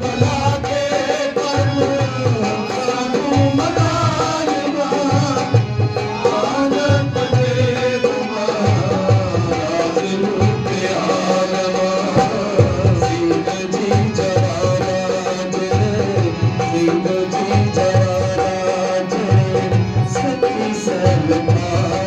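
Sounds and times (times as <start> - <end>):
dholak drum beat: 0.0 - 22.0
harmonium melody: 0.0 - 22.0.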